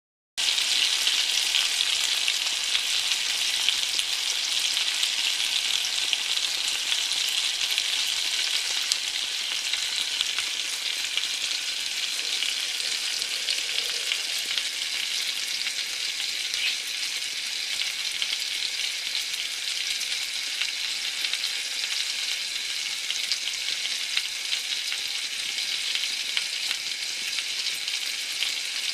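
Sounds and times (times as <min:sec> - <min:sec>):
food sizzling in a pan: 0:00.4 - 0:28.9.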